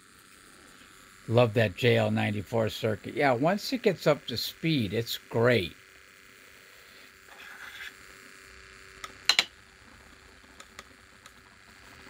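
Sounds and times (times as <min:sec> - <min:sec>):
rotor spinning hum: 0:00.0 - 0:12.0.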